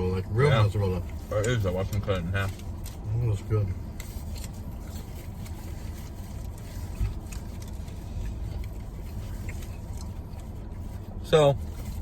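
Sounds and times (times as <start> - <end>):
car engine idling: 0.0 - 12.0
faint clicks and rustles: 0.0 - 12.0.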